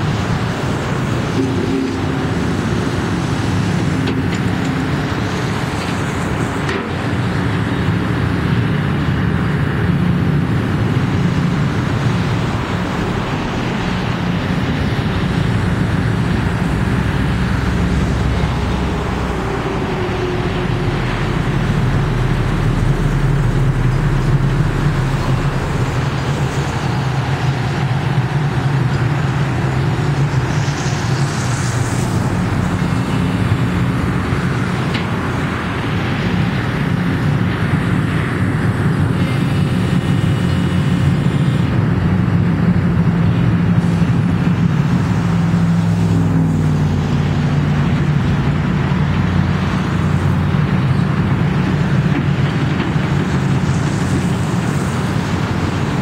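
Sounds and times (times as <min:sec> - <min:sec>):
excavator hydraulics: 0:00.0 - 0:07.9, 0:11.2 - 0:56.0
excavator diesel engine running: 0:00.0 - 0:56.0.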